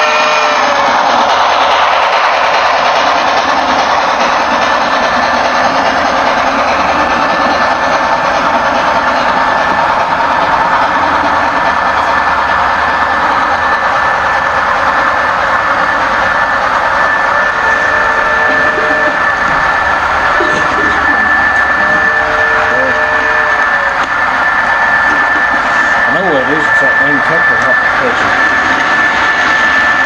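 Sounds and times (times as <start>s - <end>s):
model train wheels rumbling on rail: 0.0s - 30.0s
thin steady whine: 1.2s - 30.0s.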